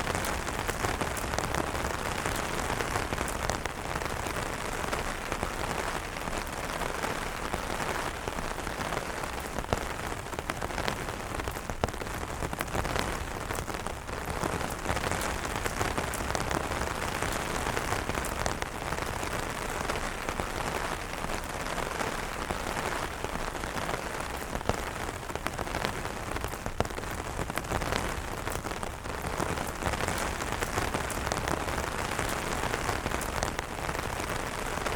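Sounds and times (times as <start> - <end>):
rain falling on umbrellas: 0.0 - 34.9.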